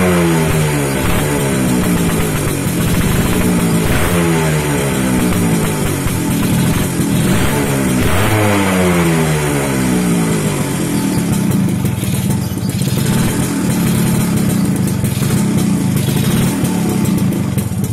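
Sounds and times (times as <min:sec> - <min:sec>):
two-stroke motorcycle engine: 0:00.0 - 0:17.9.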